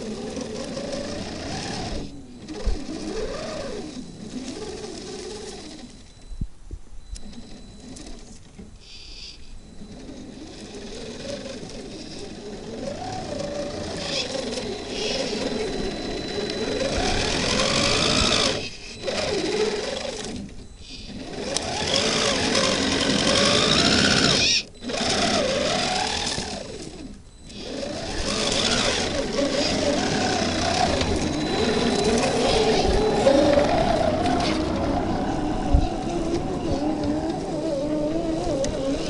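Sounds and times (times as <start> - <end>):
toy truck electric motors whining: 0.0 - 6.2, 7.2 - 39.0.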